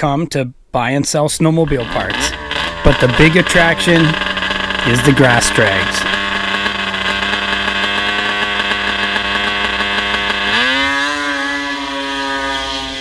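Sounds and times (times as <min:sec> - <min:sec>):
snowmobile engine revving: 0:01.6 - 0:13.0.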